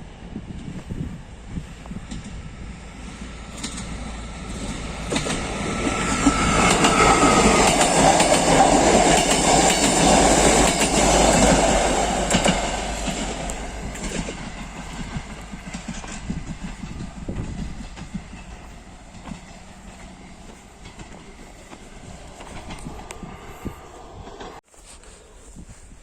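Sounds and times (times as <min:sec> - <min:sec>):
train wheels clattering over rail joints: 0:03.2 - 0:24.6.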